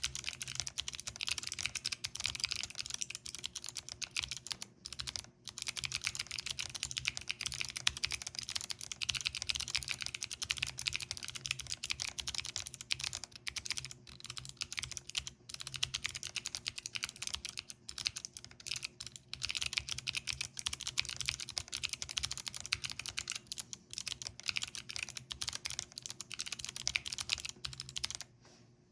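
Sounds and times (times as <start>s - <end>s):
fast typing on keyboard: 0.0s - 28.3s.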